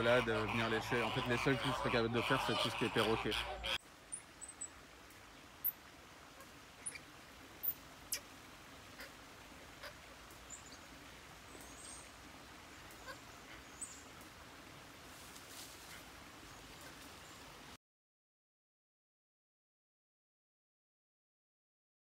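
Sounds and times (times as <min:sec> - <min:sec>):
faint outdoor background: 0:00.0 - 0:17.8.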